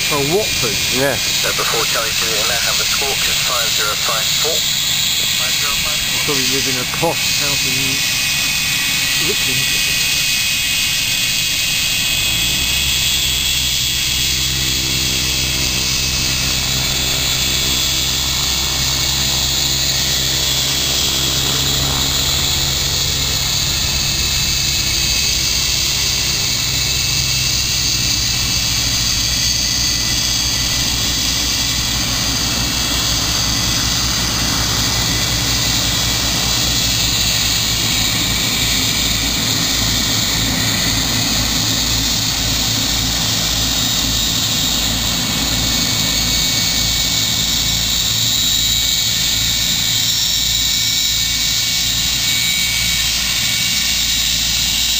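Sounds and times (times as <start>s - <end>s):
low pulsing: 0.0s - 51.6s
aircraft engine high whine: 0.0s - 54.9s
low engine drone: 0.0s - 54.9s.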